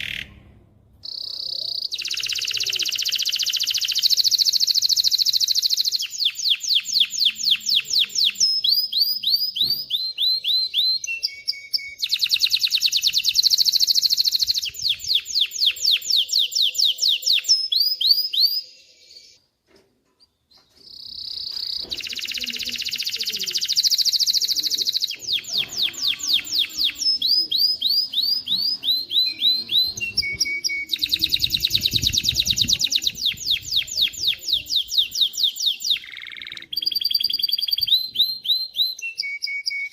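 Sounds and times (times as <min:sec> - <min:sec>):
canary singing trills: 0:00.0 - 0:19.4, 0:20.2 - 0:39.9.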